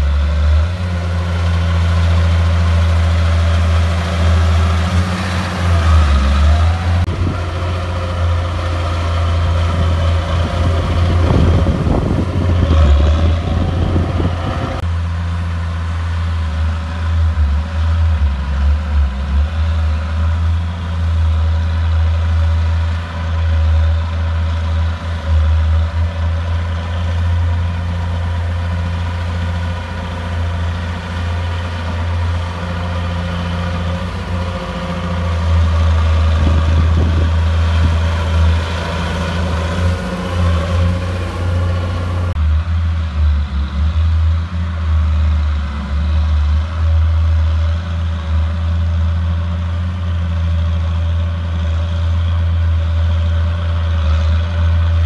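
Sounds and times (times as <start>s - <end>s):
bulldozer diesel engine droning: 0.0s - 55.0s
rough noisy engine stretch: 0.0s - 55.0s.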